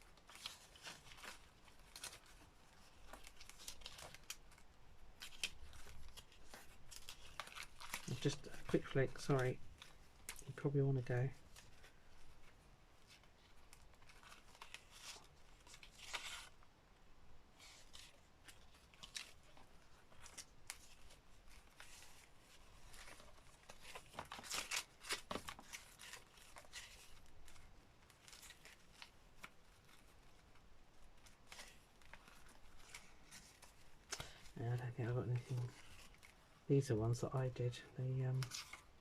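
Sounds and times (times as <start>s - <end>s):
light clicks of paper handling: 0.0s - 16.6s, 17.6s - 36.4s
paper rustling: 0.0s - 16.6s, 17.5s - 36.4s, 38.1s - 39.0s.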